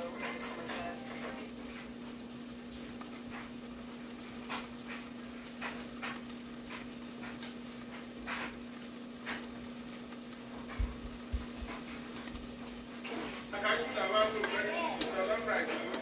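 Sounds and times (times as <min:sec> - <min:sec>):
steady low hum: 0:00.0 - 0:14.4
sausage sizzling in skillet: 0:00.0 - 0:16.0.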